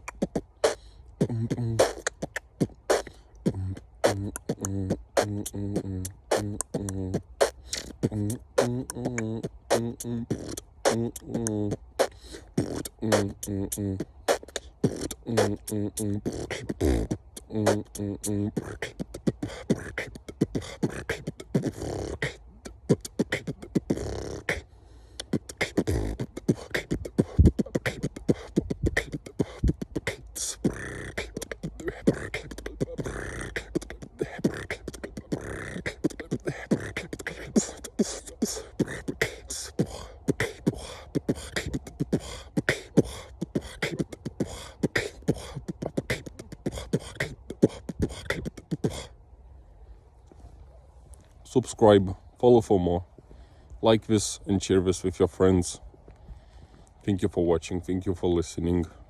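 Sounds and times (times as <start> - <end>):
beatboxing: 0.0 - 49.2
person humming: 0.0 - 49.2.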